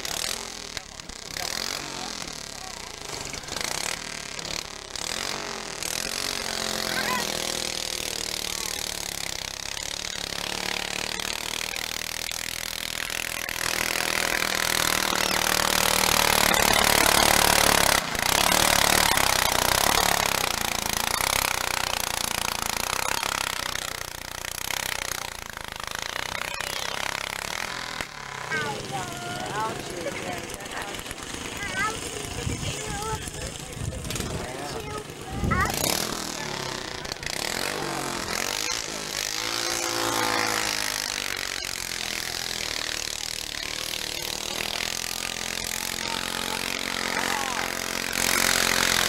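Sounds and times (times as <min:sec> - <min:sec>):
tractor engine revving hard: 0:00.0 - 0:49.0.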